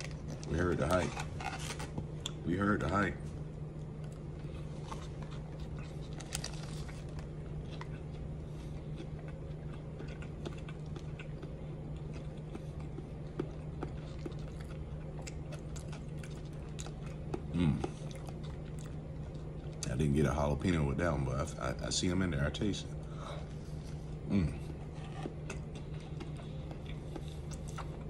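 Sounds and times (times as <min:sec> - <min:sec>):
person chewing crunchy food: 0:00.0 - 0:19.9, 0:23.4 - 0:28.0
low hum: 0:00.0 - 0:28.0.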